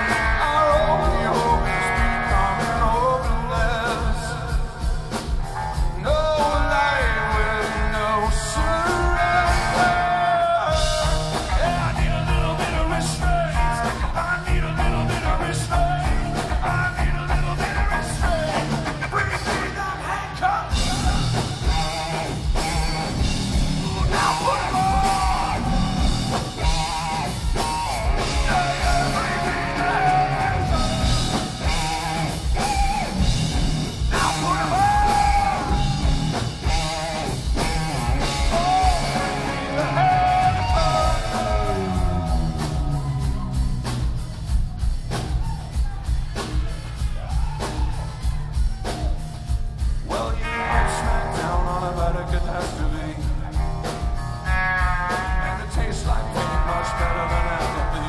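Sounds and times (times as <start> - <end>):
person singing: 0.0 - 44.2, 45.2 - 58.0
electric guitar: 0.0 - 45.5, 48.9 - 58.0
drum beat: 0.0 - 58.0.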